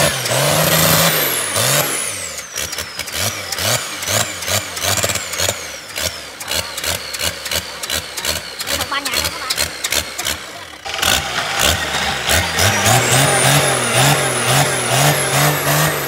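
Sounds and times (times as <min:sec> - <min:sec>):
diesel engine cranking: 0:00.0 - 0:16.0.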